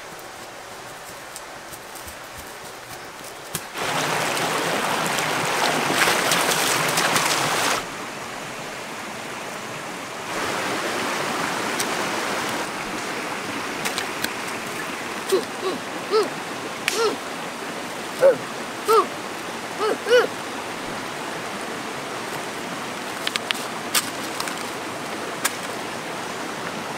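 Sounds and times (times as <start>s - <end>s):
water rushing over stones: 0.0s - 26.9s.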